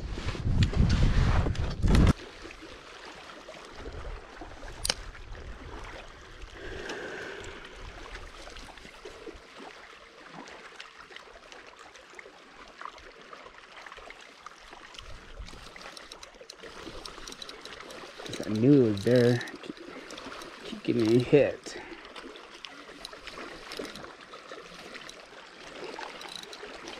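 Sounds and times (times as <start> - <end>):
water lapping against a hull: 1.4 - 26.9.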